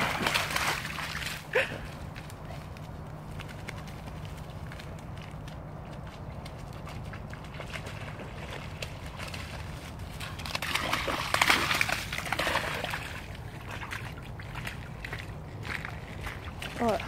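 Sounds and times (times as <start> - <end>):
paws splashing through shallow water: 0.0 - 17.0.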